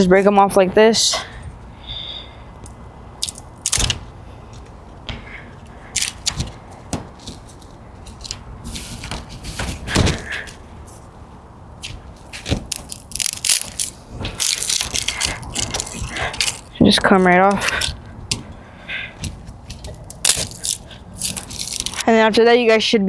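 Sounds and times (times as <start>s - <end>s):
twigs snapping: 2.6s - 22.0s.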